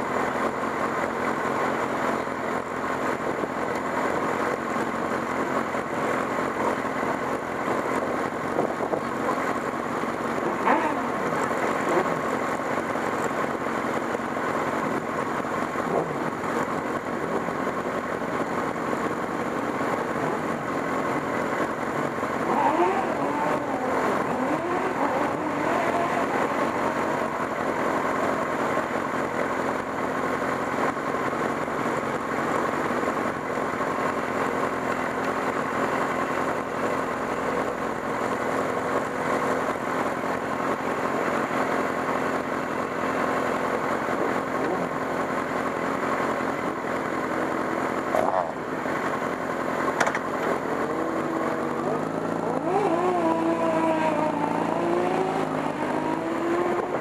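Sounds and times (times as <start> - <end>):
kart engine idling and revving: 0.0 - 57.0.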